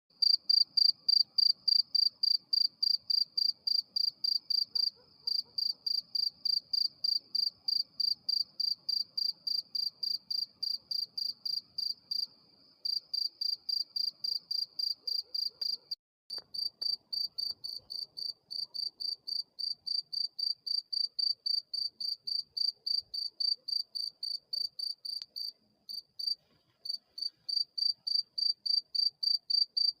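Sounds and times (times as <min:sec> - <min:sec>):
cricket chirping: 0:00.2 - 0:30.0.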